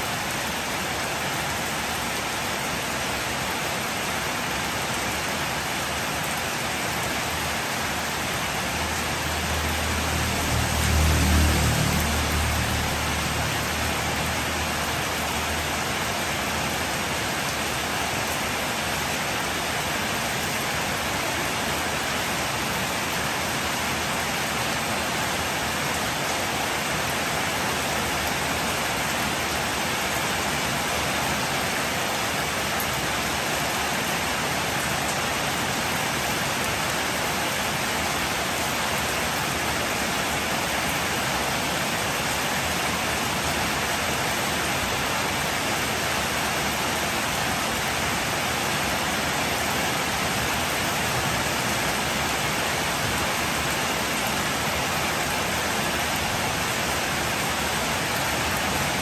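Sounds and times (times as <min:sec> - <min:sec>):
rain on a wet street: 0:00.0 - 0:59.0.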